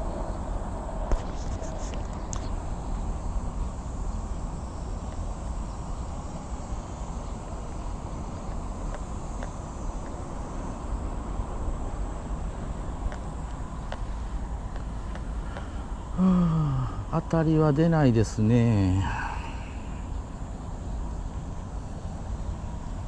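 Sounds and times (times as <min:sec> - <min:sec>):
insect chirring: 0:01.2 - 0:22.6.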